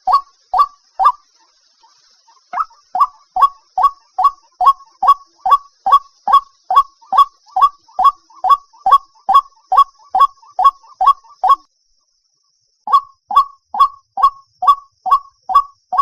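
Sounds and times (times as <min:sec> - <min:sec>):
bird calling downward notes: 0:00.0 - 0:01.2, 0:01.8 - 0:11.7, 0:12.9 - 0:16.0.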